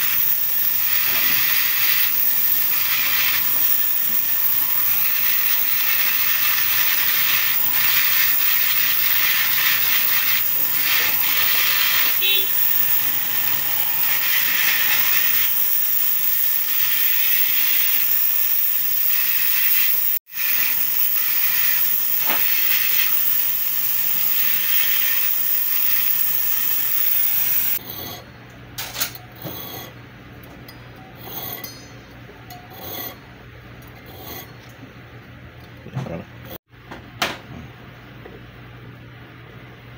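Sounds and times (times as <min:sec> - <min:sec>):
rotary tool grinding metal: 0:00.0 - 0:28.2, 0:28.8 - 0:30.0, 0:31.1 - 0:34.7
saw blade cutting metal: 0:00.0 - 0:28.2, 0:28.8 - 0:30.0, 0:31.1 - 0:33.2, 0:33.9 - 0:34.6.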